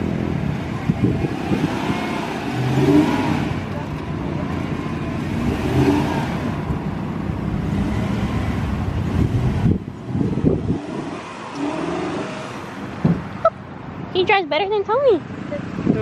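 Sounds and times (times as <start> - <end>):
truck engine revving in sand: 0.0 - 13.4.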